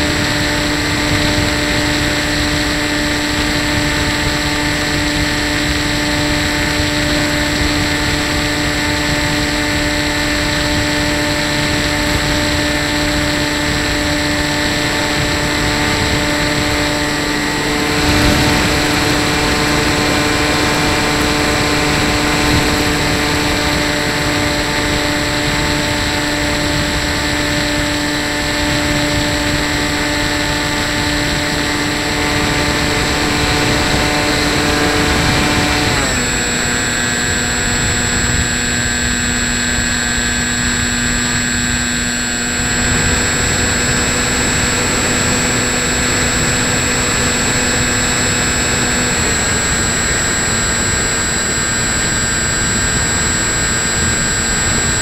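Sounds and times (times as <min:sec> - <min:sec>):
model plane motor whining: 0:00.0 - 0:55.0
rushing wind noise: 0:00.0 - 0:55.0.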